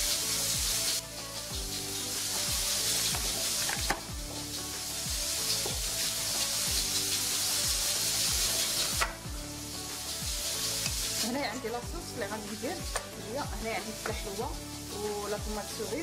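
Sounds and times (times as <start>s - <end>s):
background music with low beat: 0.0s - 16.0s.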